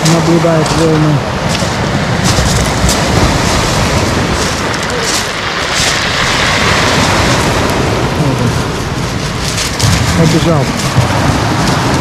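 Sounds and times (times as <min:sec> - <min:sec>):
low wind rumble on microphone: 0:00.0 - 0:12.0
waves breaking on pebble beach: 0:00.0 - 0:12.0.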